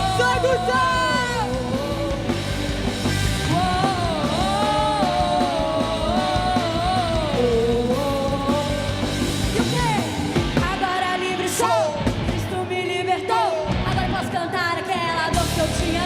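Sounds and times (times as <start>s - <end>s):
gospel rock band playing: 0.0s - 16.0s.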